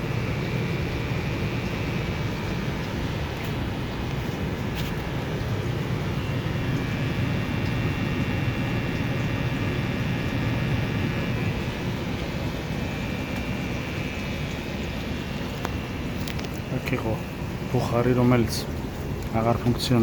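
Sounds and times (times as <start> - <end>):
faint high whine: 0.0 - 20.0
low roar of flame and blowers: 0.0 - 20.0.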